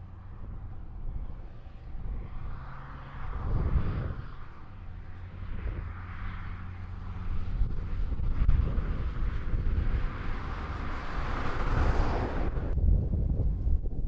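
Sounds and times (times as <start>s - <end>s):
car engine and tyres droning: 0.0s - 14.0s
wind gusting on microphone: 0.2s - 14.0s.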